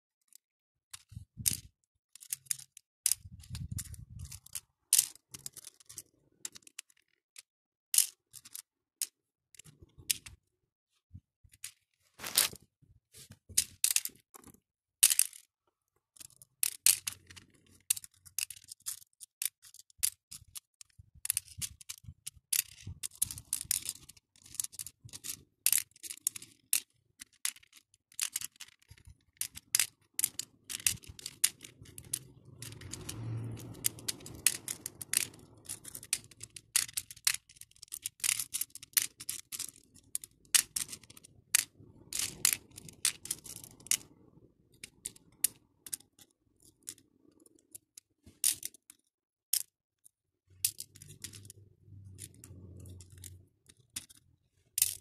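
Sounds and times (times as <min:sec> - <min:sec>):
beads clicking and clattering: 0:00.2 - 0:10.4, 0:11.5 - 0:12.6, 0:13.2 - 0:55.0.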